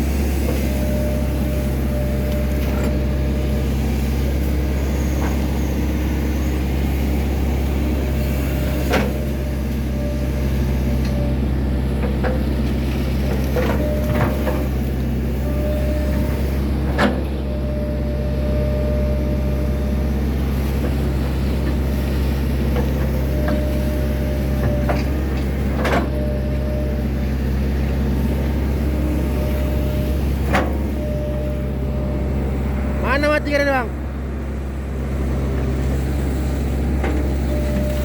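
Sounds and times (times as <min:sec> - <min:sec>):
diesel engine running under load: 0:00.0 - 0:38.0
hydraulic whine: 0:00.0 - 0:38.0.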